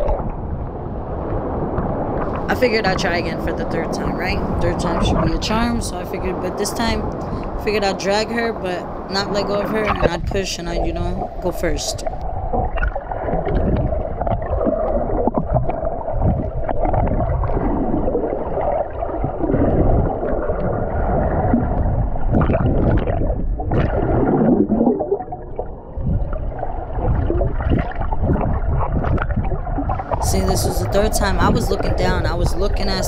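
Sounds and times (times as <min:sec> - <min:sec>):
sea water sloshing and gurgling: 0:00.0 - 0:08.2, 0:08.8 - 0:33.0.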